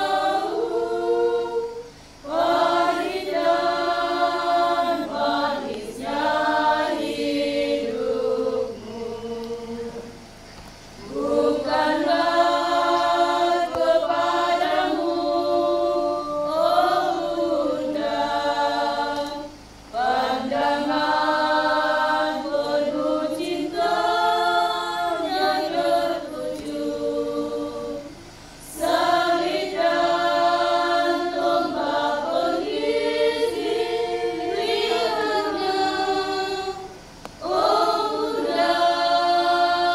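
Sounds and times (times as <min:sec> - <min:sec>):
women's choir singing a hymn: 0:00.0 - 0:39.9.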